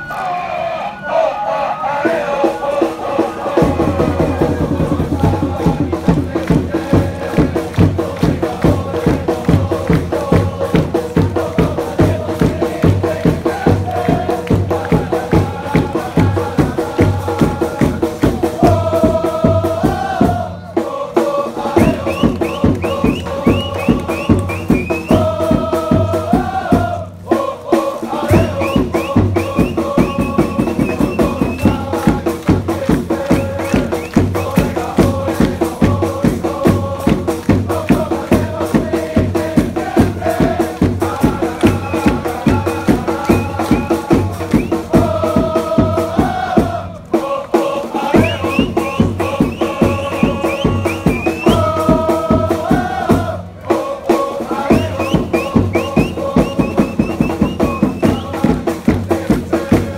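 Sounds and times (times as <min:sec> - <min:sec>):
crowd chanting in unison: 0:00.0 - 0:59.9
driving drum beat: 0:02.4 - 0:59.9.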